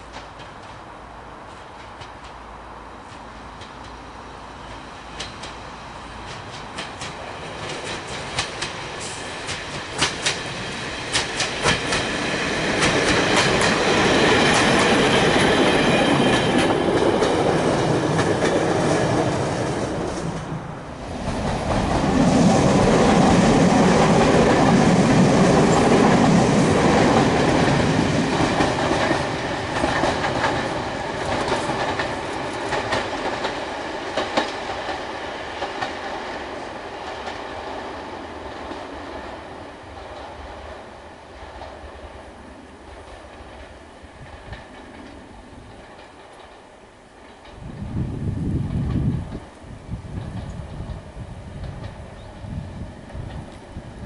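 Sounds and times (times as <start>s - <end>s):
train wheels clicking over rail joints: 0.0s - 20.5s, 21.2s - 42.2s, 42.8s - 48.0s, 48.6s - 53.8s.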